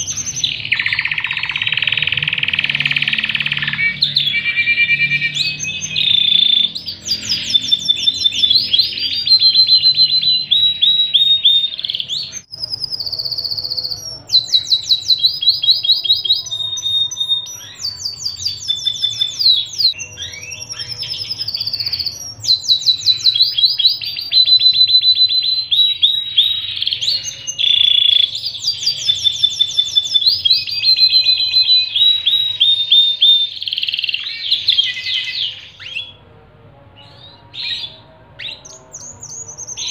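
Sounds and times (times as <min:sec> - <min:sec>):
canary singing trills: 0:00.0 - 0:36.4, 0:37.0 - 0:39.9.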